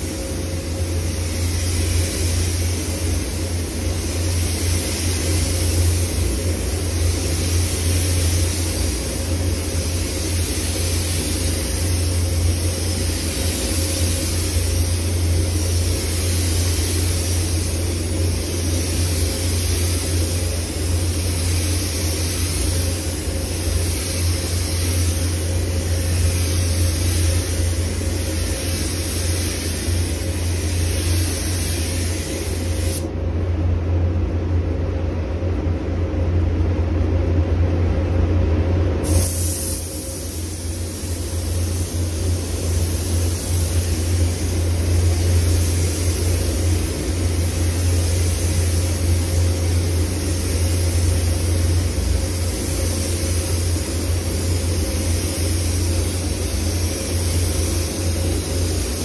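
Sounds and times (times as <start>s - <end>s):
spray gun hissing: 0.0s - 33.1s, 39.0s - 59.0s
low hum of air handling: 0.0s - 59.0s.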